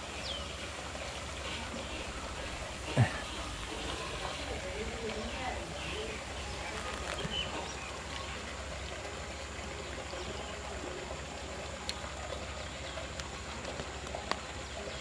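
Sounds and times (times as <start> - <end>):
running water pouring into pond: 0.0 - 15.0.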